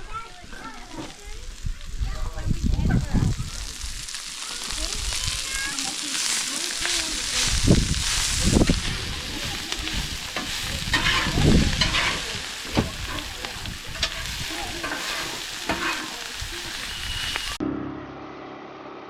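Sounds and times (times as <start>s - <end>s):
food sizzling in a pot: 0.0s - 17.6s.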